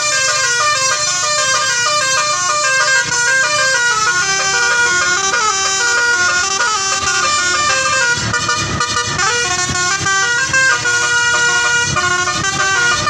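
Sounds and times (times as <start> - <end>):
multi-tone musical air horn: 0.0 - 13.0.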